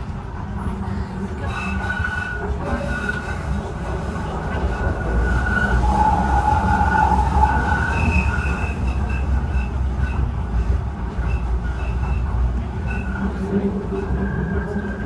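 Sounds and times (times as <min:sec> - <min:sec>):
train low rumble: 0:00.0 - 0:15.0
wheel squeal: 0:01.4 - 0:03.6, 0:04.5 - 0:15.0.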